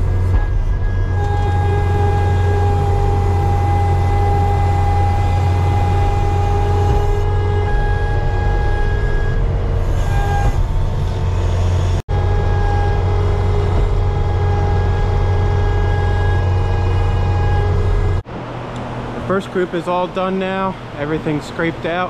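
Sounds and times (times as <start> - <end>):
loader engine running under load: 0.0 - 18.3
steady whine: 0.0 - 22.0.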